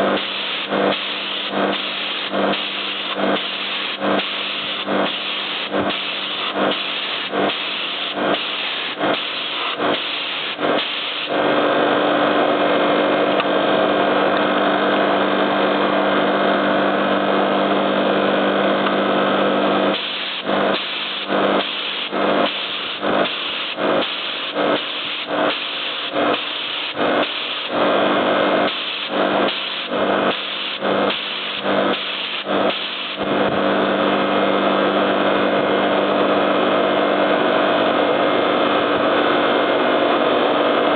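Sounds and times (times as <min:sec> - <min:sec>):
air compressor humming: 0:00.0 - 0:40.9
compressor noise bursts: 0:00.0 - 0:40.9.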